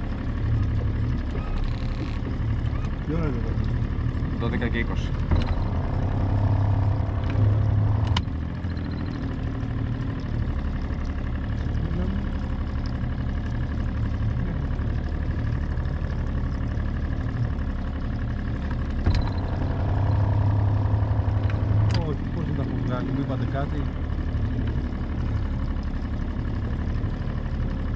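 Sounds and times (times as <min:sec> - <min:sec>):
boat engine humming: 0:00.0 - 0:27.9.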